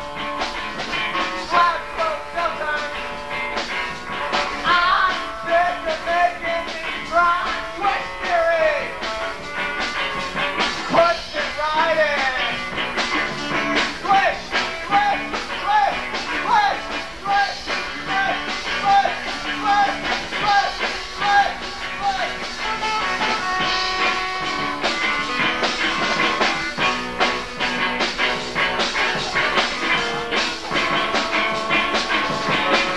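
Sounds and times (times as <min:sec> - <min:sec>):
bending lead guitar notes: 0:00.0 - 0:32.9
drums: 0:00.0 - 0:32.9
live rock band playing: 0:00.0 - 0:32.9.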